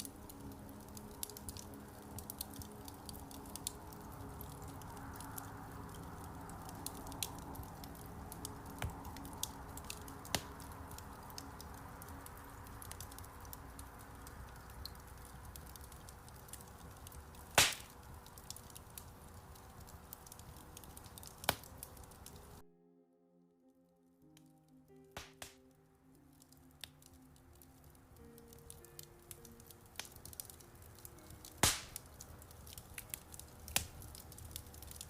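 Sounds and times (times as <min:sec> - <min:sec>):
sharp pops of fire: 0:00.0 - 0:13.3, 0:14.2 - 0:22.5, 0:25.2 - 0:25.6, 0:29.0 - 0:35.0
wood fire crackling: 0:00.0 - 0:22.6, 0:24.2 - 0:35.0.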